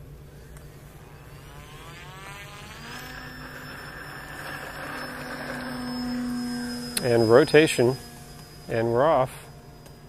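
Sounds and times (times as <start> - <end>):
model plane electric motor whine: 0.0 - 10.0.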